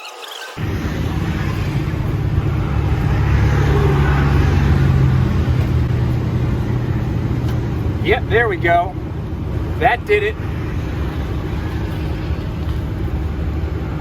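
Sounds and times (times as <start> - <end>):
vehicle engine running: 0.6 - 14.0.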